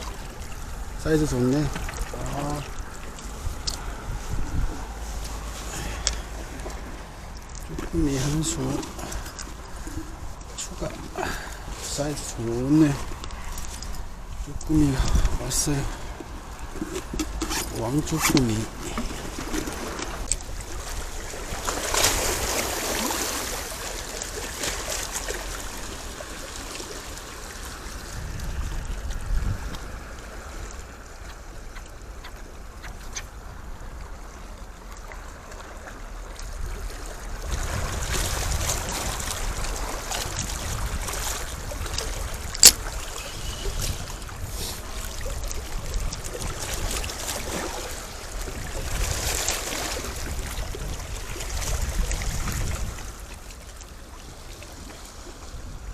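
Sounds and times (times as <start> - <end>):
wind buffeting microphone: 0.0 - 23.1, 27.7 - 34.3, 36.5 - 53.4
sea water washing: 0.0 - 55.9.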